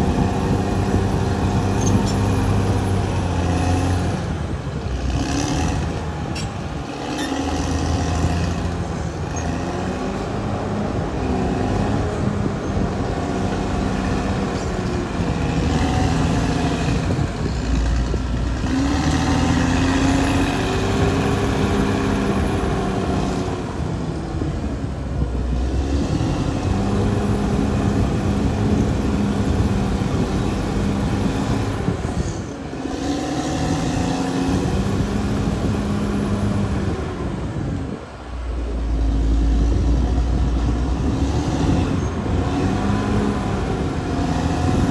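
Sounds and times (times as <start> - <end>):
bulldozer diesel engine under load: 0.0 - 44.9.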